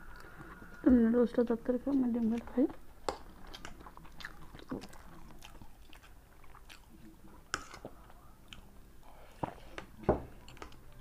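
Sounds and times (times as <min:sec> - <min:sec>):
people chewing noodles: 0:01.9 - 0:11.0.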